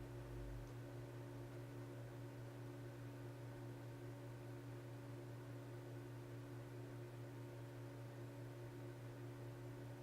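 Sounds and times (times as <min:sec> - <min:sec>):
faint low electrical hum: 0:00.0 - 0:10.0.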